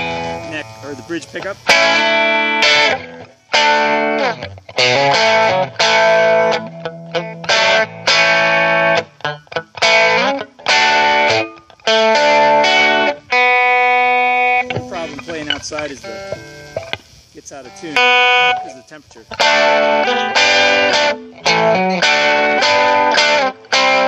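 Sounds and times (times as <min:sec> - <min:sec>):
electric guitar strummed chords: 0:00.0 - 0:24.0
guitar sliding notes: 0:00.0 - 0:24.0.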